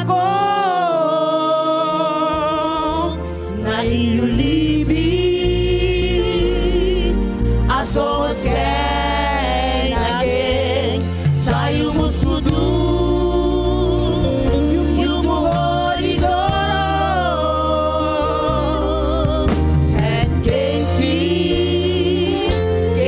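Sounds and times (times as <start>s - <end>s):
low instrumental accompaniment: 0.0s - 23.0s
worship team singing: 0.0s - 23.0s.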